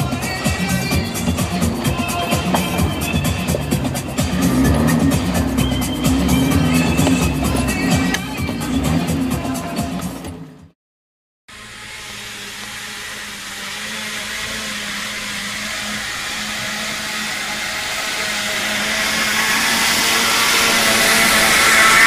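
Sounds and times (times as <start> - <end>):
truck engine droning in mud: 0.0 - 10.7, 11.5 - 22.0.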